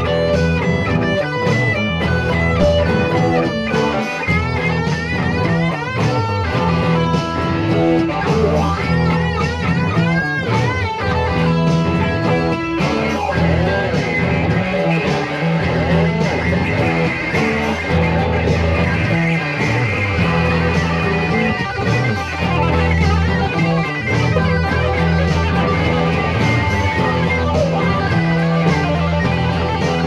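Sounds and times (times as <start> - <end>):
electric guitar lead: 0.0 - 30.0
steady bass: 0.0 - 30.0.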